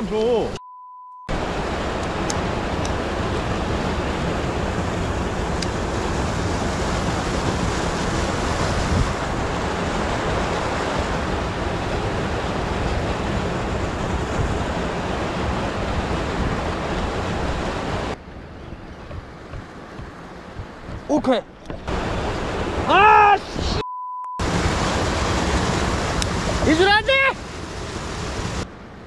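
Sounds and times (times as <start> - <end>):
steady rushing noise: 1.3 - 23.8, 24.4 - 29.0.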